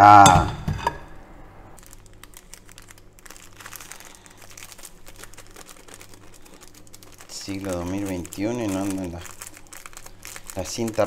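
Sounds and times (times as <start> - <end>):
plastic crinkling: 1.8 - 11.0.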